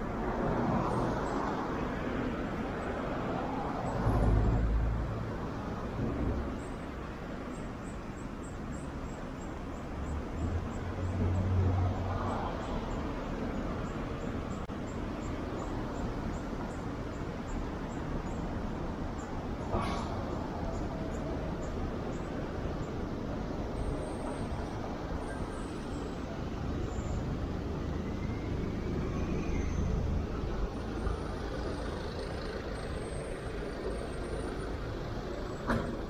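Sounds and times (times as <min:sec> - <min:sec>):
hum of city traffic: 0:00.0 - 0:36.0.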